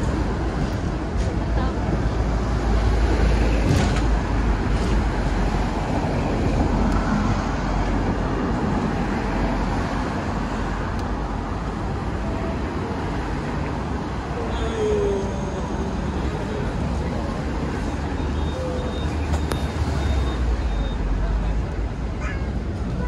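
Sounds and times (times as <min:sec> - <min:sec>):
street traffic noise: 0:00.0 - 0:23.0
tram rumble: 0:00.0 - 0:23.0.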